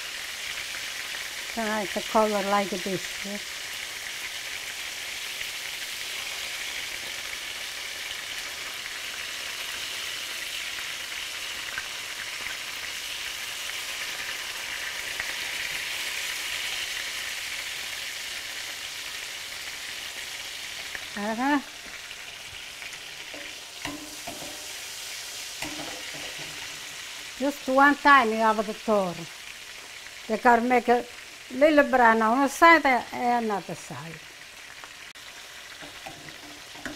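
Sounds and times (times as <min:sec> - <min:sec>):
chicken sizzling in a skillet: 0:00.0 - 0:36.9.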